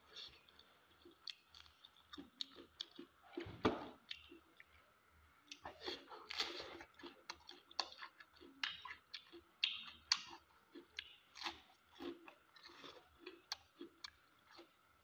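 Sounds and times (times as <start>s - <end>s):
man chewing and smacking: 0.1s - 3.2s, 5.5s - 14.8s.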